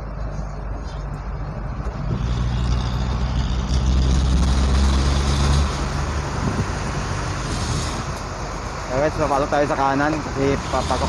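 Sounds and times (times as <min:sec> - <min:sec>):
delivery vehicle engine running: 0:00.0 - 0:11.0.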